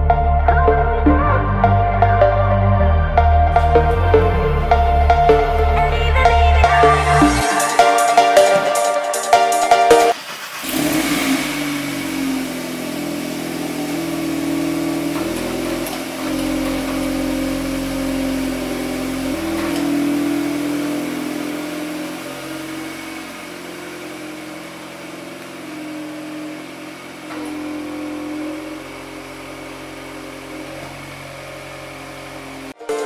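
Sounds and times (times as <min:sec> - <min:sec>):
car engine pulling away: 0:00.0 - 0:09.0, 0:09.9 - 0:33.0.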